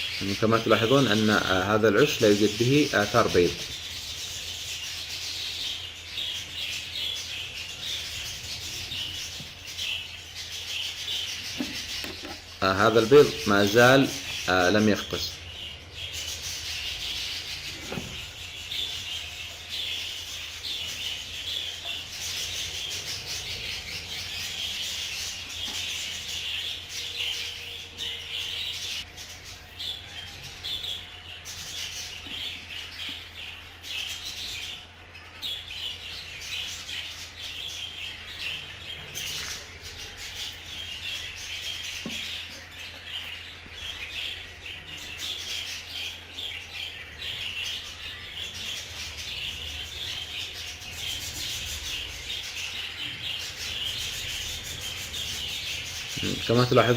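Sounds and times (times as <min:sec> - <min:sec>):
budgerigars chattering and chirping: 0:00.0 - 0:56.9.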